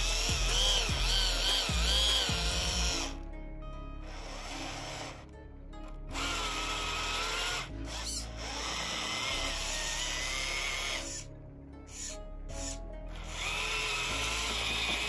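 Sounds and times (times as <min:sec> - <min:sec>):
electric motor whining under load: 0:00.0 - 0:03.3, 0:04.0 - 0:15.0
background music: 0:00.0 - 0:15.0.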